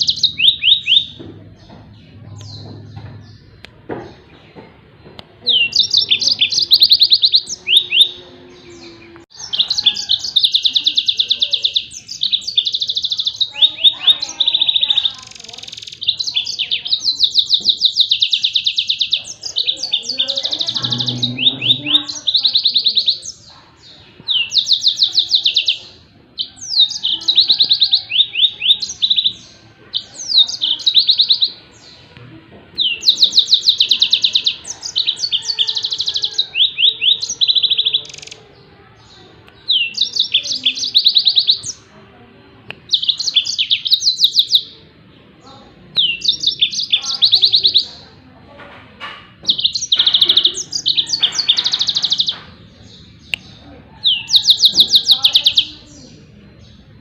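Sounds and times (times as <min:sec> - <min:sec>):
canary singing trilled notes: 0:00.0 - 0:04.7, 0:05.4 - 0:42.0, 0:42.6 - 0:48.2, 0:49.0 - 0:57.0.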